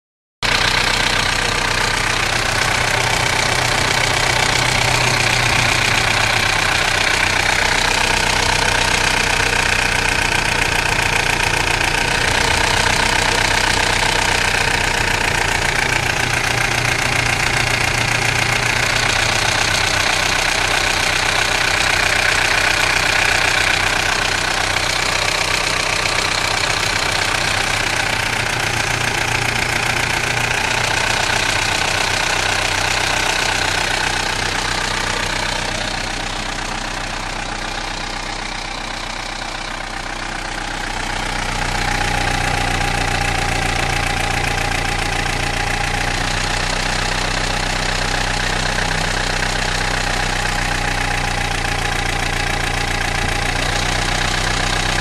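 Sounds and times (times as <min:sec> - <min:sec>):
diesel engine idling: 0:00.4 - 0:55.0
engine rattle: 0:00.4 - 0:55.0.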